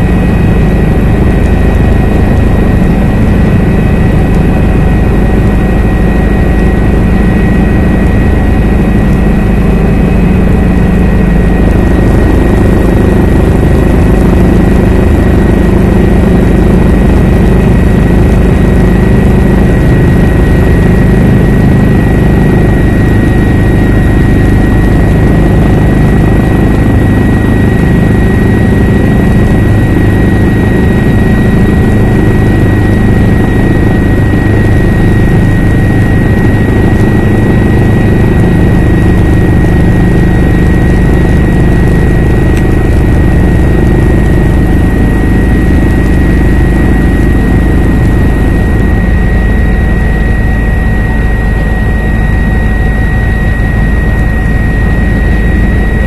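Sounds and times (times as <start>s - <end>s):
helicopter rotor and engine: 0.0s - 56.0s
high-pitched whine: 0.0s - 56.0s.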